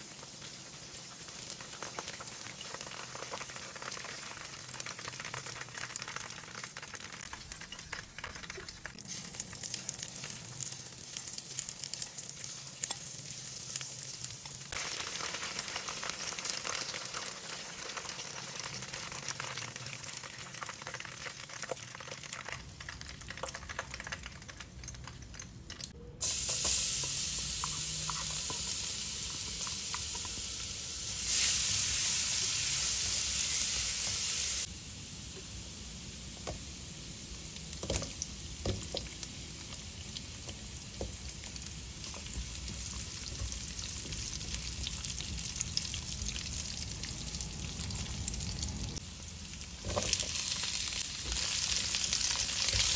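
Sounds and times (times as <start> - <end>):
garlic sizzling in oil: 0.0 - 23.6, 26.2 - 52.9
chicken frying in hot oil: 0.0 - 52.9.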